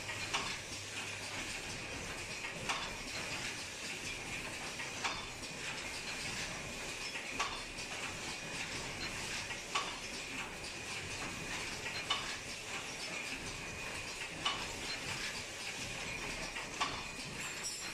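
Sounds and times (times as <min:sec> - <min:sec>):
machine whirr and hiss: 0:00.0 - 0:17.9.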